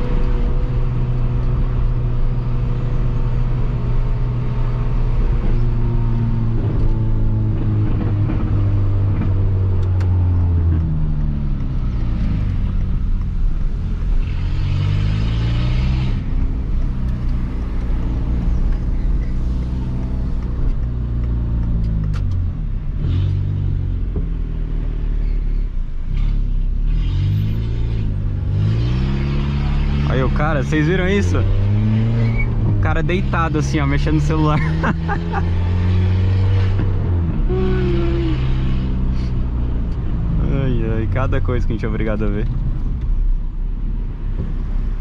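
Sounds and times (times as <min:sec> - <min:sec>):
car engine through loud exhaust: 0:00.0 - 0:45.0.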